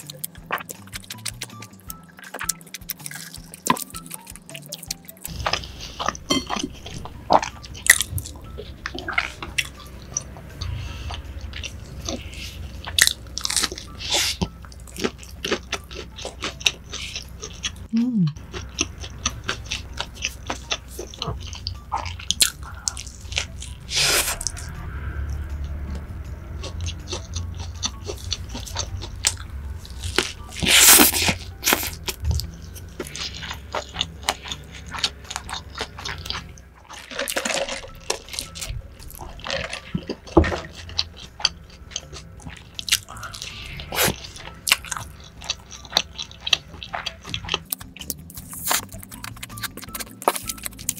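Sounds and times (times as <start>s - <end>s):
chewing with wet mouth sounds: 0.0s - 50.9s.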